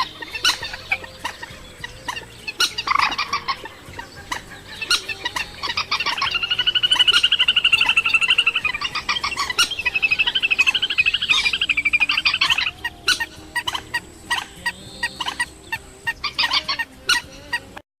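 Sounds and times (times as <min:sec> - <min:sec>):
bird rattling call: 0:00.0 - 0:17.8.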